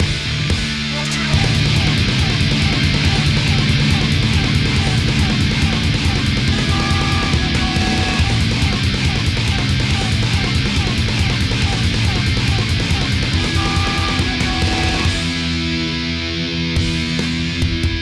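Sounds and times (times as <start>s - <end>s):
punk rock music: 0.0s - 18.0s.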